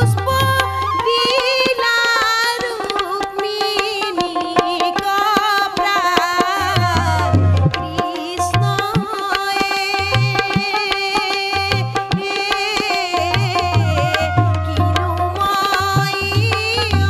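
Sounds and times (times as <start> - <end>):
tabla playing: 0.0 - 17.0
woman singing folk song: 0.0 - 17.0.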